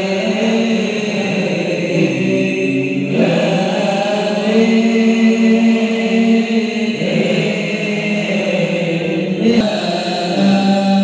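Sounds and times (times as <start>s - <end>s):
men singing in unison: 0.0s - 11.0s.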